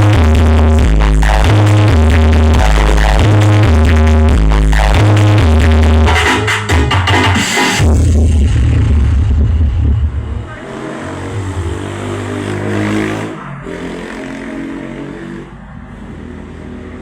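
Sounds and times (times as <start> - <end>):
heavy bass: 0.0 - 17.0.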